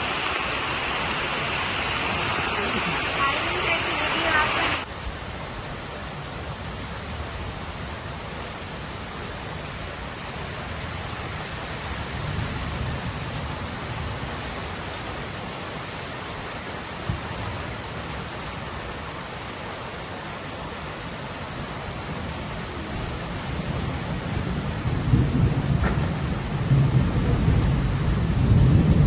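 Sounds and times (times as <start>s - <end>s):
rain falling: 0.0s - 29.0s.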